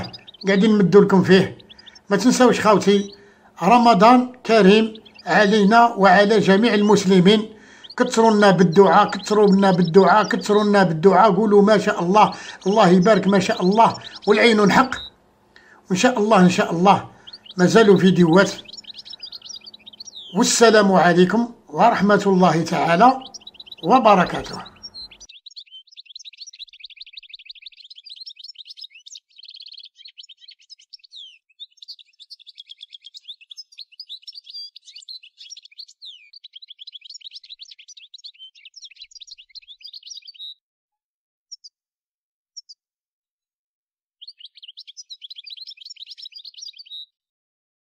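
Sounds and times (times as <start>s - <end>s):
bird twittering song: 0.0s - 40.6s, 41.5s - 41.8s, 42.6s - 42.8s, 44.2s - 47.2s.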